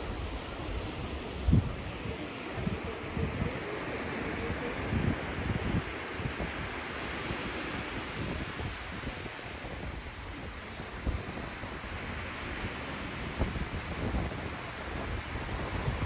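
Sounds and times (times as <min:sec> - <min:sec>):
small waves washing onto sand: 0:00.0 - 0:16.0
wind buffeting microphone: 0:00.0 - 0:16.0.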